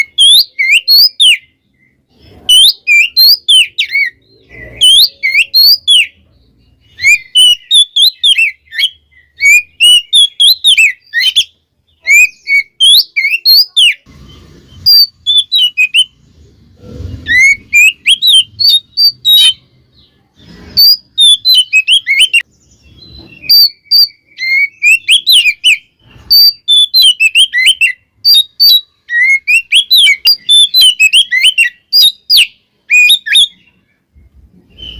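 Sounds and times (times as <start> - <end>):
songbird whistling and chirping: 0.0 - 34.9.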